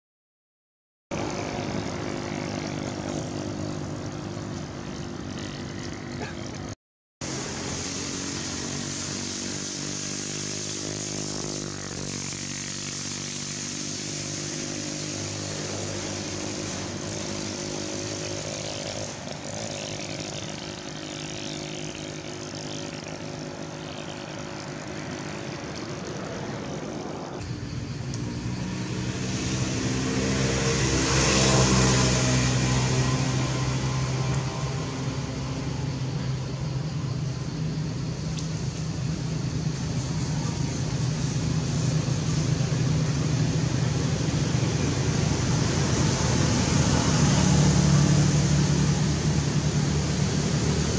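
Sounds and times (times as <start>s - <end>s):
vehicle engine running: 1.1s - 50.9s.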